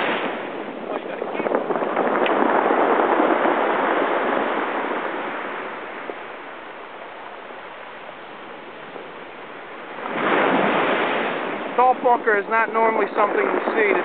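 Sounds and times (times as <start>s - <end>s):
surf washing over cobblestones: 0.0s - 14.0s.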